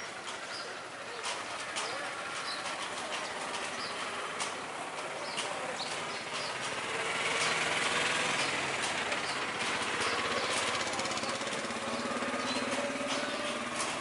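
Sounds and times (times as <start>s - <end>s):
din of engines: 0.0s - 14.0s
rapid mechanical rattle: 0.0s - 14.0s.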